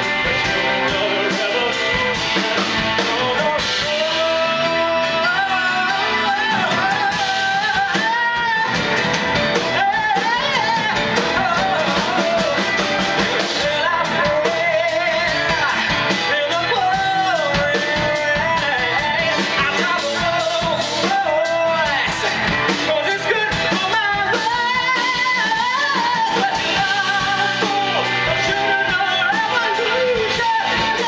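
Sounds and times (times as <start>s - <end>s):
band with electric guitar: 0.0s - 31.0s
person singing rock song: 0.0s - 31.0s.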